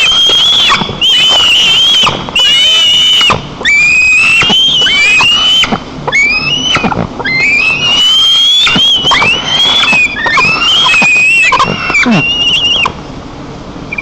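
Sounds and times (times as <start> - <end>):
eagle piercing whistled cries: 0.0 - 13.0.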